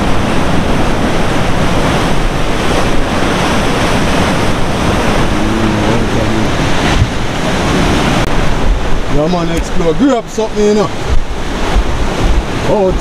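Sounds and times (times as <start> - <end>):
surf on rocky shore: 0.0 - 13.0
wind buffeting microphone: 0.0 - 13.0.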